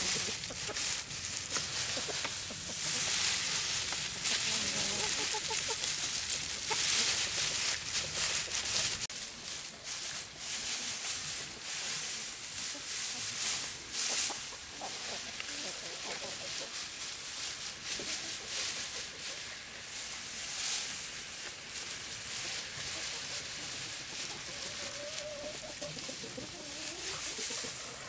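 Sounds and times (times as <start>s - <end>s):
dry straw rustling and crackling: 0.0s - 28.0s.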